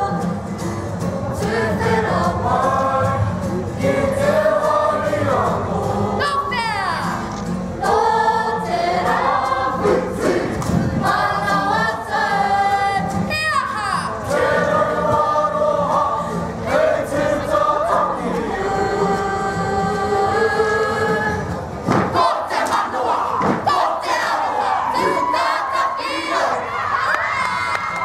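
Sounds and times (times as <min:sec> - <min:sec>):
group singing in chorus: 0:00.0 - 0:13.3, 0:13.9 - 0:26.8.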